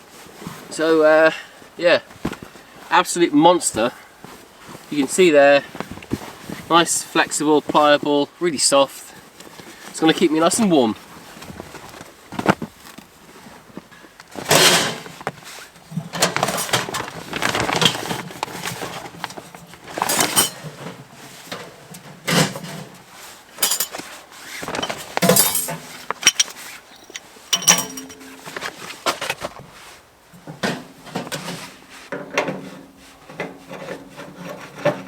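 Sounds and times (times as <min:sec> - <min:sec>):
camp gear rustling and clinking: 0:01.6 - 0:08.2, 0:08.9 - 0:35.0.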